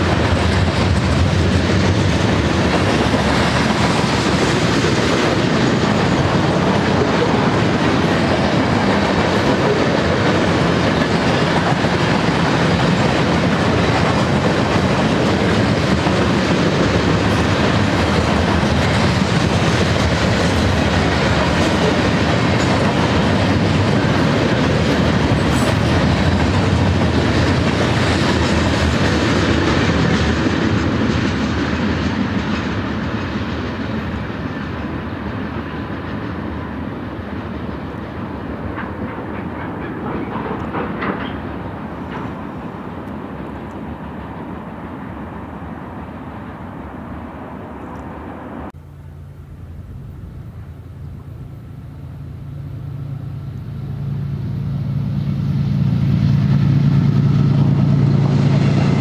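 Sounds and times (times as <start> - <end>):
train wheels on rail: 0.0 - 59.0.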